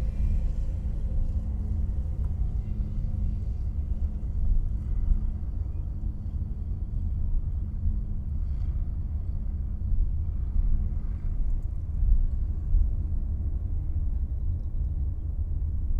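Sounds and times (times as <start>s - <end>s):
car engine and road noise: 0.0s - 14.4s
faint constant hum: 0.0s - 15.9s.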